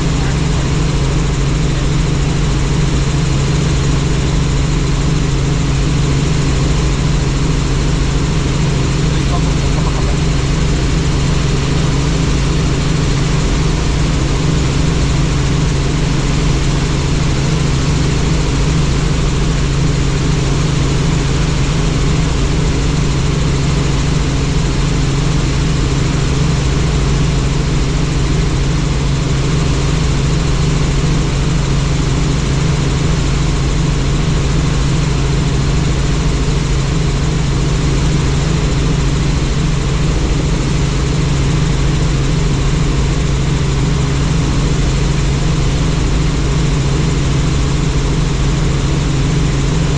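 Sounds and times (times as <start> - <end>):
helicopter rotor and engine drone: 0.0 - 49.9.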